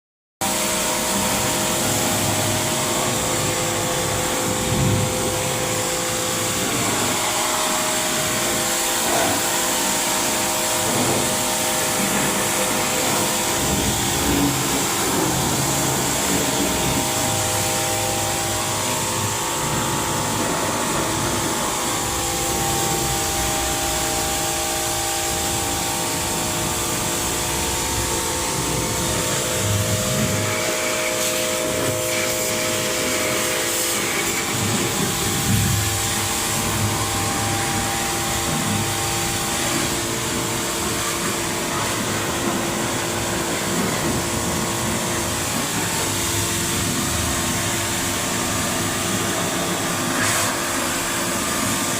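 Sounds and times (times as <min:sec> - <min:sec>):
steady whining tones: 0:00.4 - 0:51.9.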